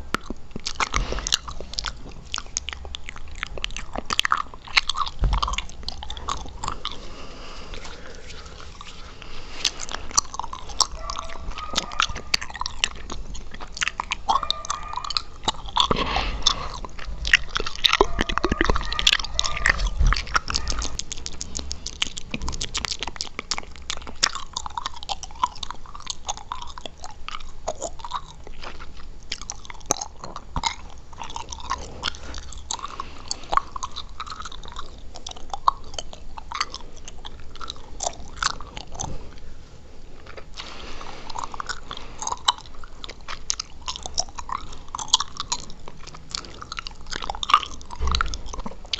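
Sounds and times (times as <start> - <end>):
gum chewing mouth sounds: 0.0 - 48.9.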